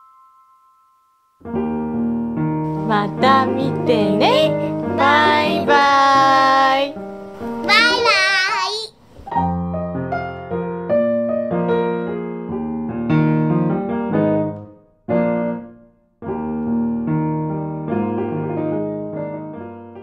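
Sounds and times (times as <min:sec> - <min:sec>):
piano melody: 0:00.0 - 0:20.0.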